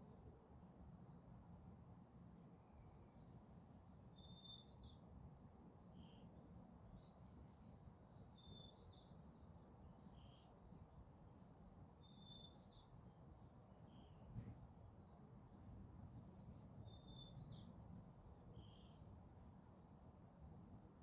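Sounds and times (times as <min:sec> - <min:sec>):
songbird singing faintly: 0:00.0 - 0:21.0.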